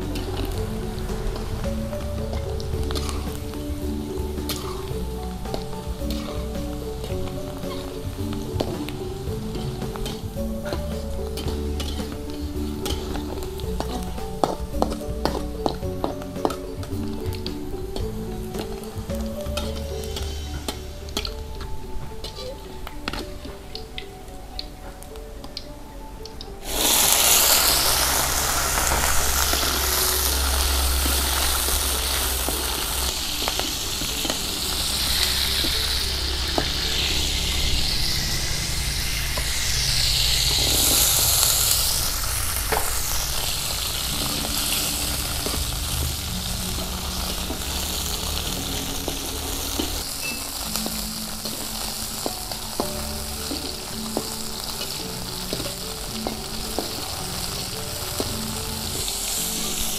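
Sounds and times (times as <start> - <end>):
oil sizzling in a wok: 0.0 - 25.7, 26.6 - 59.9.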